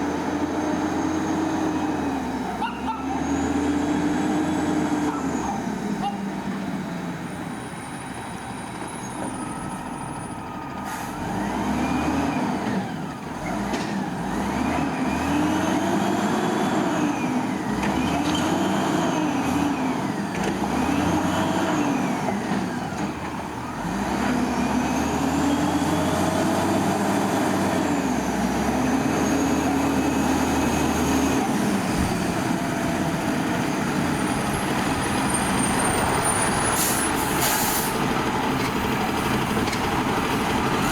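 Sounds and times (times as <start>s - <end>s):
truck diesel engine revving: 0.0s - 7.6s, 9.8s - 40.9s.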